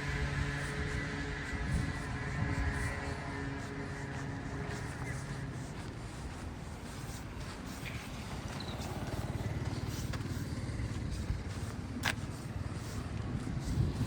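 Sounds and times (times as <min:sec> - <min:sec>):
low rumble of distant traffic: 0:00.0 - 0:14.0.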